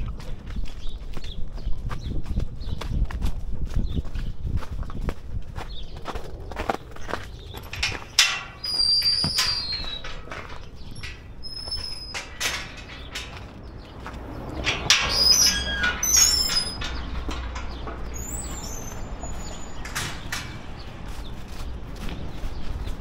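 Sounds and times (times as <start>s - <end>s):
dog footsteps clicking: 0.0s - 23.0s
steady low rumble: 3.1s - 23.0s
small birds chirping: 3.7s - 23.0s.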